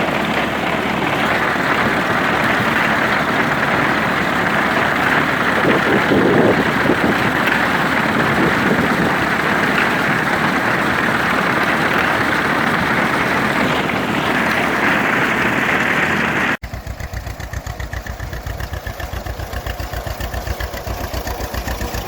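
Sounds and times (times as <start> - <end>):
grain binder mechanical clatter: 0.0 - 22.0
tractor engine running: 0.0 - 22.0.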